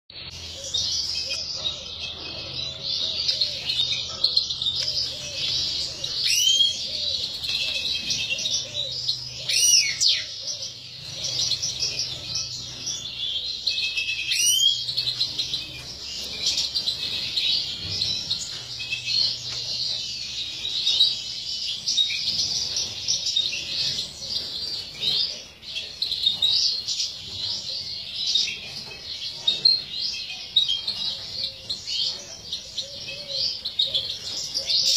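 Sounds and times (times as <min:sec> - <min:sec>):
goldfinches twittering and singing: 0:00.2 - 0:34.9
loud sweeping bird calls: 0:00.2 - 0:34.9.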